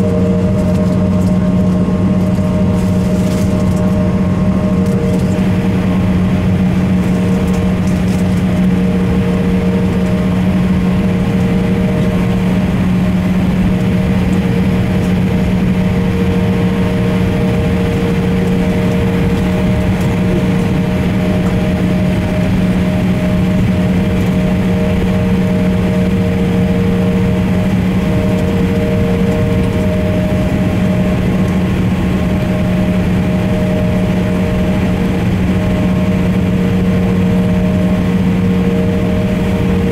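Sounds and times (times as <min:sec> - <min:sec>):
airplane cabin drone: 0:00.0 - 0:39.9
turbofan engines idling: 0:00.0 - 0:39.9.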